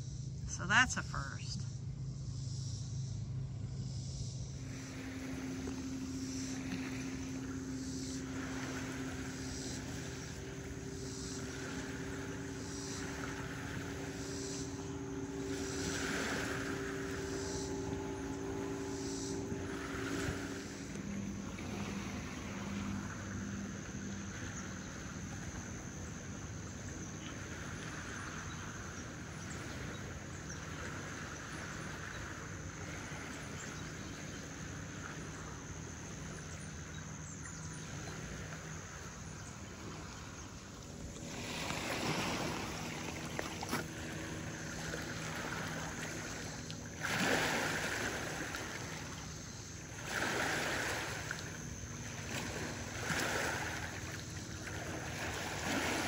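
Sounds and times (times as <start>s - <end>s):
wind: 0.0s - 56.0s
water rushing: 0.5s - 1.4s, 4.6s - 36.4s, 37.8s - 56.0s.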